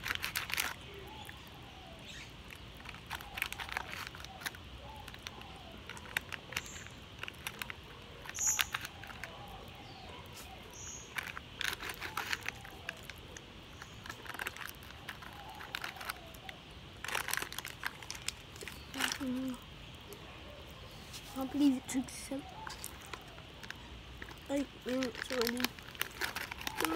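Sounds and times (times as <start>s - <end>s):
plastic packet crinkling: 0.0s - 1.4s, 2.1s - 9.8s, 10.4s - 19.6s, 21.3s - 26.9s
faint bird chirps: 0.7s - 26.9s.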